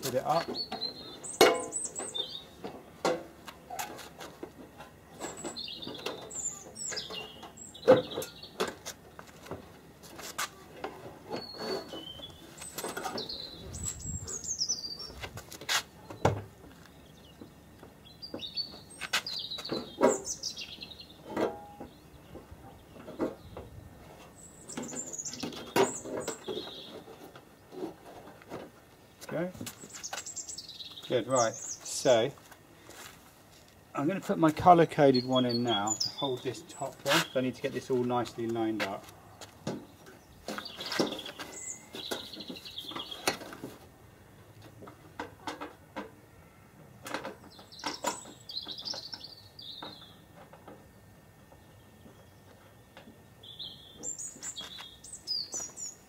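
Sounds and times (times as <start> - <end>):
small birds chirping: 0.0 - 3.9, 5.0 - 9.8, 10.5 - 15.3, 15.9 - 28.0, 29.0 - 32.9, 33.9 - 43.6, 47.2 - 56.0.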